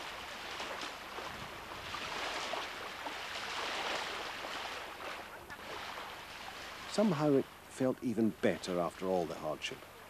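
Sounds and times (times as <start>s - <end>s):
small waves lapping on beach: 0.0s - 10.0s
water splashing: 0.0s - 10.0s.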